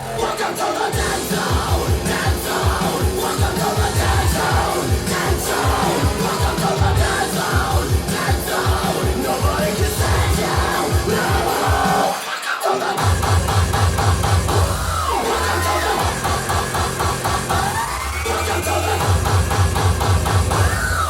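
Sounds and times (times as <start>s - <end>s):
loud hard techno music: 0.0s - 21.0s.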